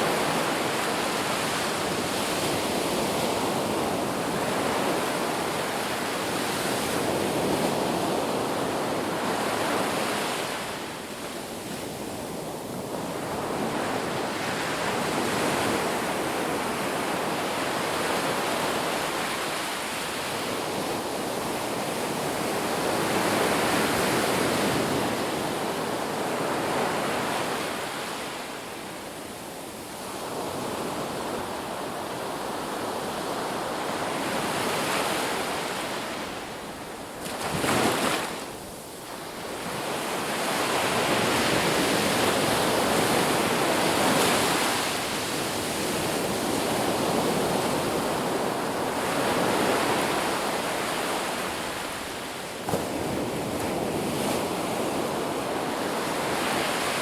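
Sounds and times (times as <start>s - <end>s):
ocean surf on a beach: 0.0s - 57.0s.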